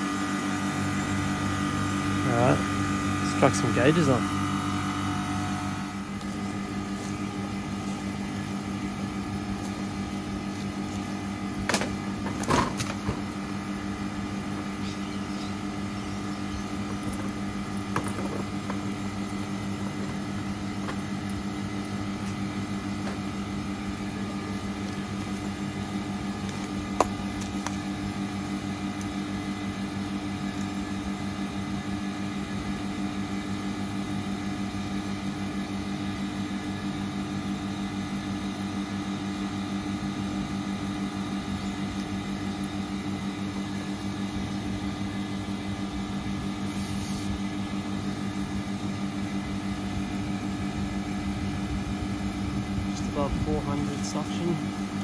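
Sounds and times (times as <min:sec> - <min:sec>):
air conditioner unit humming: 0:00.0 - 0:55.0.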